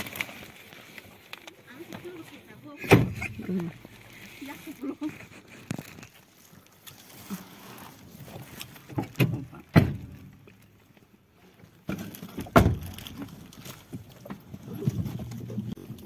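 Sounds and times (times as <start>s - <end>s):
rustling: 0.0s - 16.0s.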